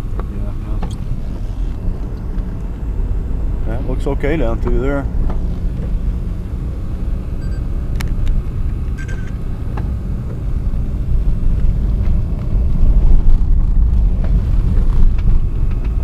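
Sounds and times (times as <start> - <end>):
road rumble inside vehicle: 0.0 - 16.0.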